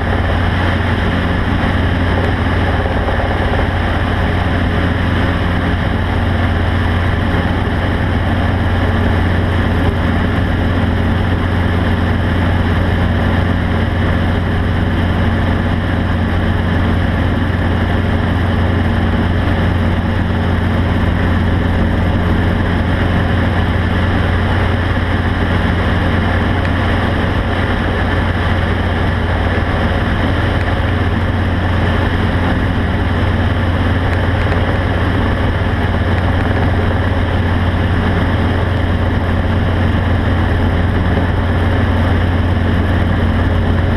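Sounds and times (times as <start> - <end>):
vehicle engine droning: 0.0 - 43.9.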